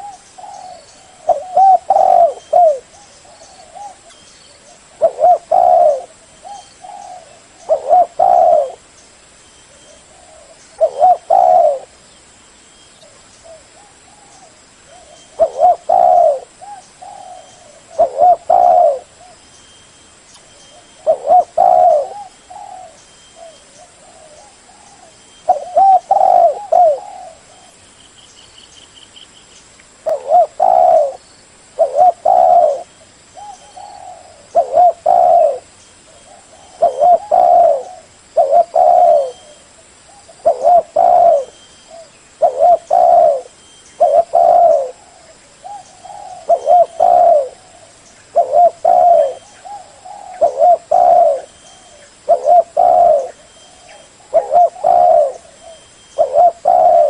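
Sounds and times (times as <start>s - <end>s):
dove cooing: 0.0s - 8.9s, 9.7s - 12.0s, 13.0s - 19.4s, 20.7s - 27.8s, 30.0s - 31.2s, 31.8s - 57.0s
bird chirping trill: 0.0s - 13.5s, 14.2s - 31.2s, 31.8s - 45.0s, 45.6s - 57.0s.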